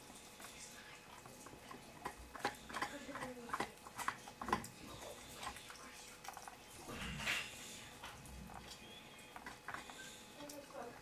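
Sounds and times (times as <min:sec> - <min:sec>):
puppy gnawing chew: 0:00.0 - 0:11.0.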